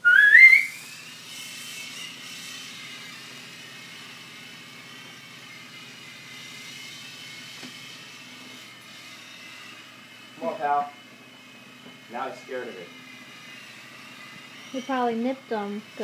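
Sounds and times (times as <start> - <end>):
toy helicopter rotor whirring: 0.0 - 16.0.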